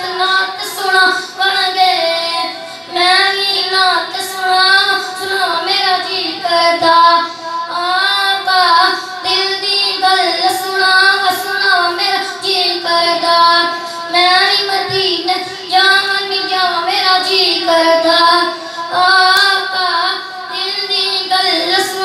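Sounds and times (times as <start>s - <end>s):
boy singing a devotional hymn: 0.0s - 22.0s.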